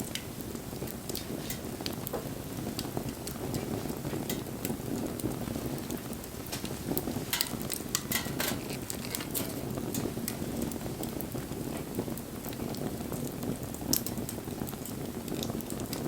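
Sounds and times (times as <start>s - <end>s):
bonfire flames rushing: 0.0s - 16.0s
burning wood crackling and popping: 0.0s - 16.0s.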